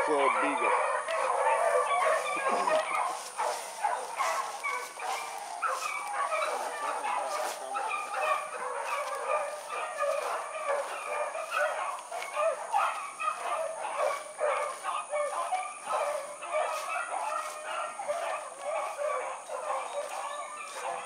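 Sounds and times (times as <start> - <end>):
beagles baying: 0.0 - 21.0.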